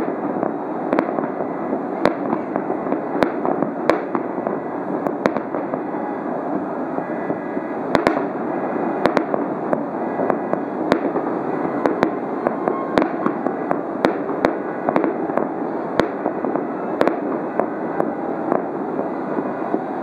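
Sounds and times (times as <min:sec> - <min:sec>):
fireworks bangs: 0:00.0 - 0:20.0
steady dense rumble: 0:00.0 - 0:20.0.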